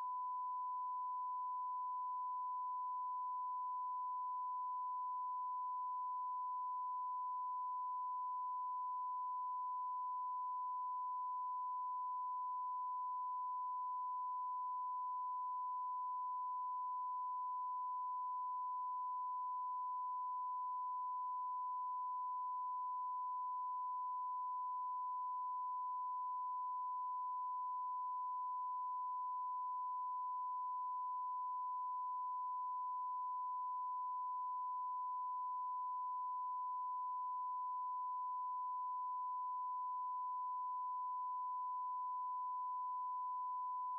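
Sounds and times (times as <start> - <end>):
electronic sine tone: 0.0 - 43.9.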